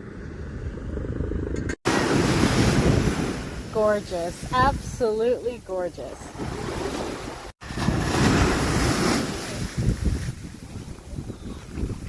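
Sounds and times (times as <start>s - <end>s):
wind buffeting microphone: 0.0s - 12.0s
surf on a beach: 1.9s - 12.0s.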